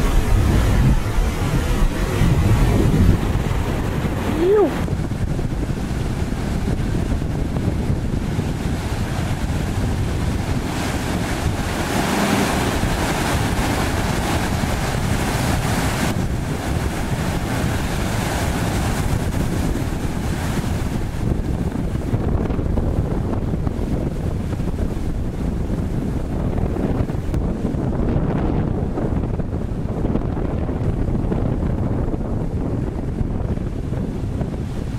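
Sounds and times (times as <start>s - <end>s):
water rushing around jet ski: 0.0s - 34.9s
wind buffeting microphone: 0.0s - 34.9s.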